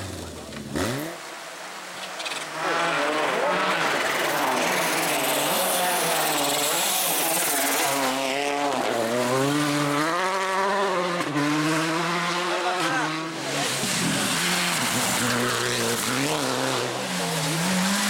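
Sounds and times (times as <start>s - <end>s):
rally car engine at full pace: 0.0s - 18.0s.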